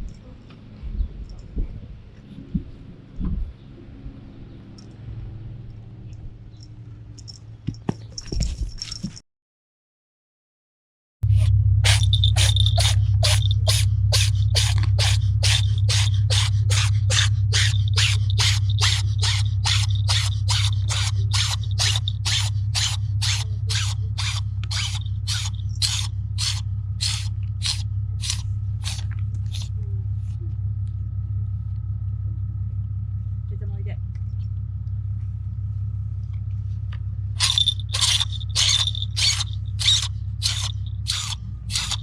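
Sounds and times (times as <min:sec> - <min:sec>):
steady low rumble: 0:00.0 - 0:07.7, 0:11.2 - 0:42.0.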